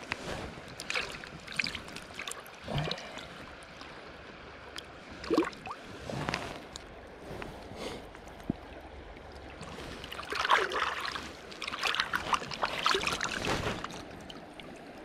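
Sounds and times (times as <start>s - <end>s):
water splashing: 0.4s - 4.0s, 4.8s - 6.9s, 8.2s - 15.0s.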